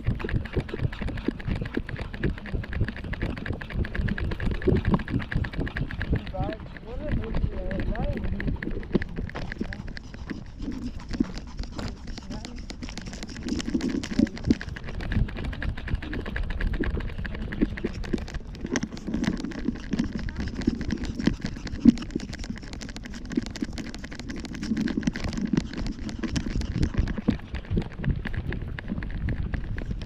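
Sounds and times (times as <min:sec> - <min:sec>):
handheld camera knocks and rubbing: 0:00.0 - 0:30.0.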